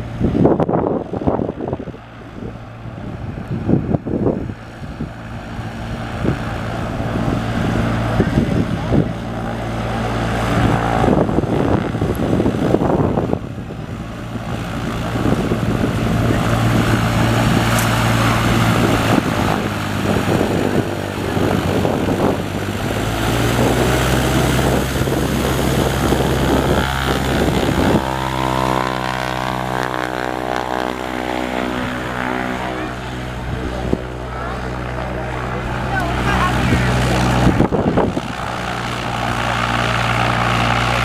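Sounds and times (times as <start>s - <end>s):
light aircraft engine and propeller: 0.0s - 41.0s.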